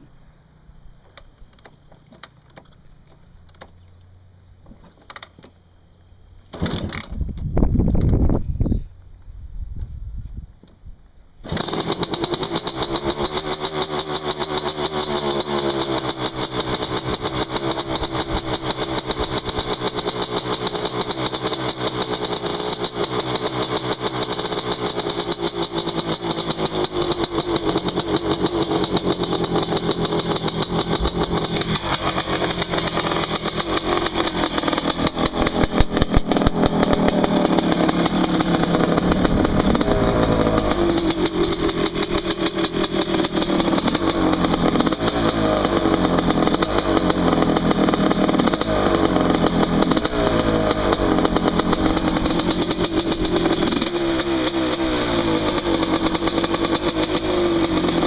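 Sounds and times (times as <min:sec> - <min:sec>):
two-stroke motorcycle engine running: 0:11.4 - 0:58.0.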